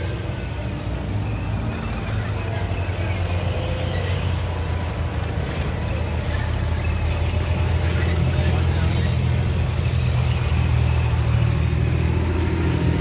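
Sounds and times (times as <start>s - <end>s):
tank engine rumble: 0.0s - 13.0s.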